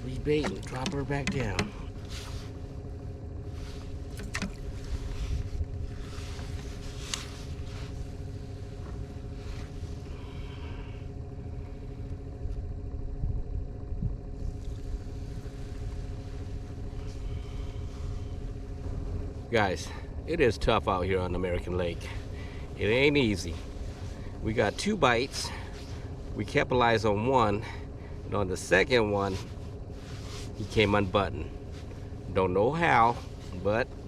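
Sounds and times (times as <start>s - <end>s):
boat motor droning: 0.0s - 34.0s.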